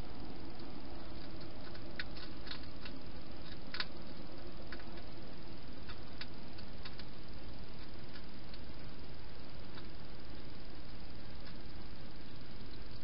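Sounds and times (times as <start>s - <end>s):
steady hiss: 0.0s - 13.0s
hedgehog crunching food: 0.2s - 13.0s.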